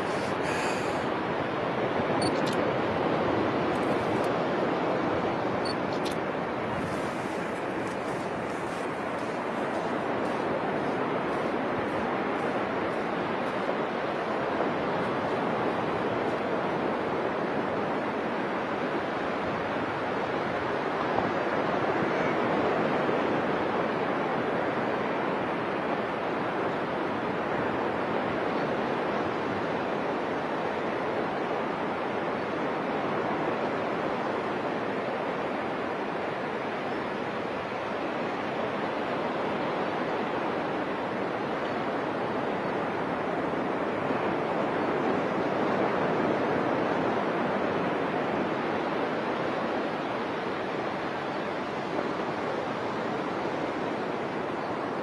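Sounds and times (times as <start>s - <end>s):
ocean surf breaking on beach: 0.0s - 55.0s.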